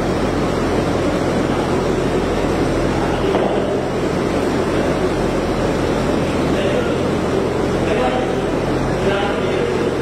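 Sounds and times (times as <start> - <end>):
low even hum: 0.0 - 10.0
steady rumbling: 0.0 - 10.0.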